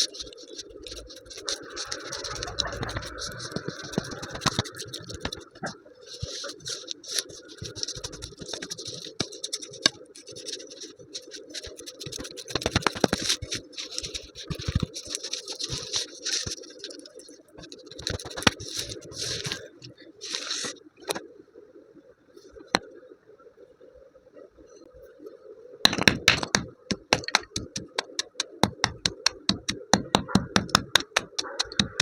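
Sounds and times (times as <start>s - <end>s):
scratching and scraping: 0.0s - 21.2s, 25.9s - 32.0s.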